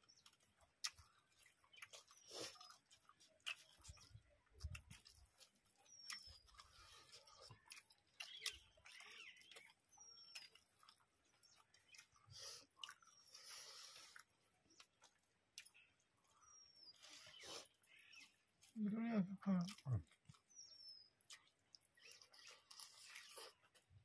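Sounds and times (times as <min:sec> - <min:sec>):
bird chirping: 0:00.0 - 0:15.0, 0:15.6 - 0:23.6
chewing: 0:00.0 - 0:18.8, 0:19.6 - 0:24.0.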